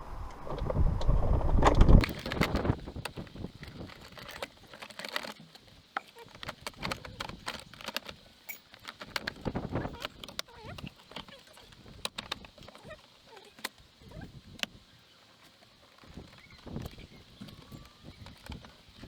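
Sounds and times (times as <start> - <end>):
plastic trim rubbing and knocking: 2.0 - 13.8, 15.4 - 19.0
light plastic and metal clicks: 2.0 - 19.0.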